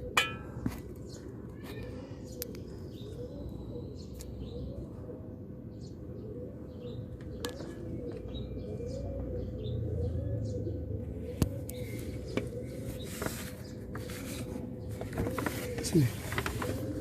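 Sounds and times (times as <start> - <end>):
birds chirping and cooing: 0.0 - 17.0.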